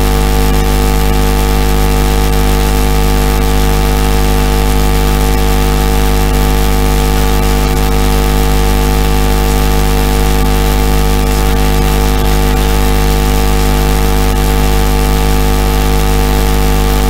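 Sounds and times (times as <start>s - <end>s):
loud buzzing hum: 0.0s - 17.0s.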